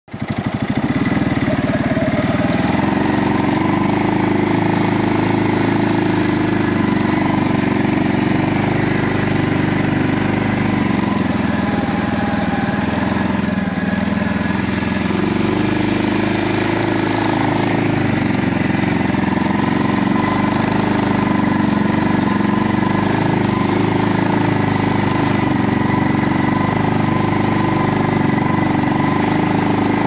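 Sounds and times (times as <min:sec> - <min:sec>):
quad bike engine running: 0:00.1 - 0:30.0.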